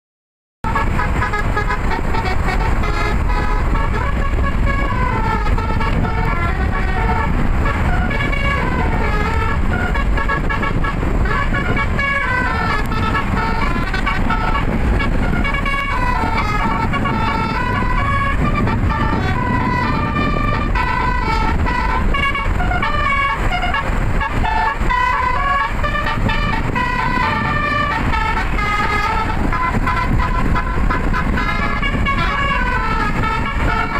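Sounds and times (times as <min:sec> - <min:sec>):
multi-tone bus horn melody: 0:00.6 - 0:33.9
steady low rumble: 0:00.6 - 0:33.9.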